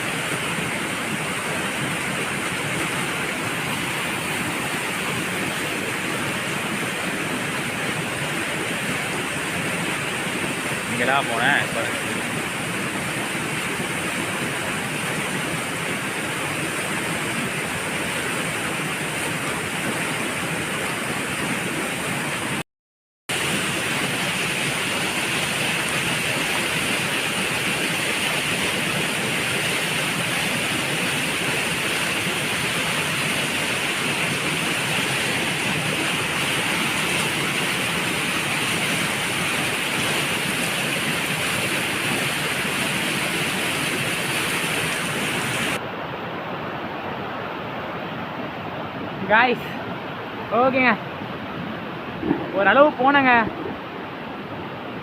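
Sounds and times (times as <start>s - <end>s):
waterfall rushing: 0.0s - 22.6s, 23.3s - 55.0s.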